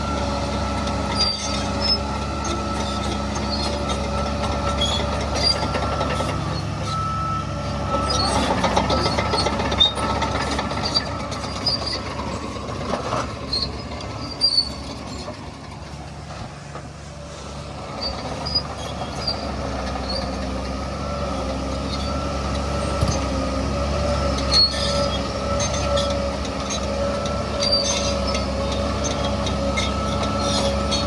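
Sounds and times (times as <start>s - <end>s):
bulldozer engine whining: 0.0s - 31.0s.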